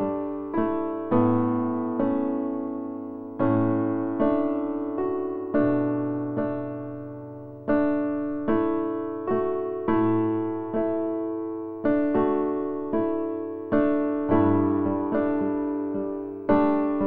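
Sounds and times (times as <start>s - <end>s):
soft solo piano: 0.0s - 17.0s.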